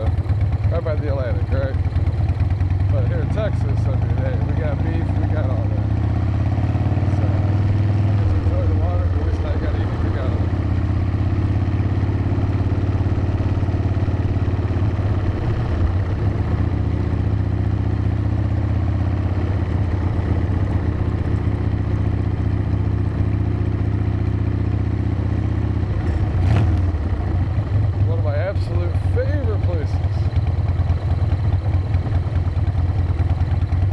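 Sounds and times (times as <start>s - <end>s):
motorcycle engine cruising: 0.0s - 33.9s.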